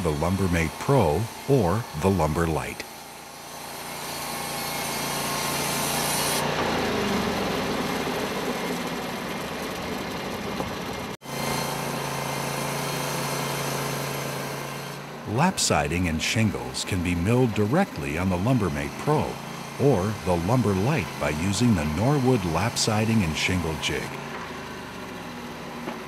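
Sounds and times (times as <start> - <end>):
sawmill engine humming: 0.0 - 26.0.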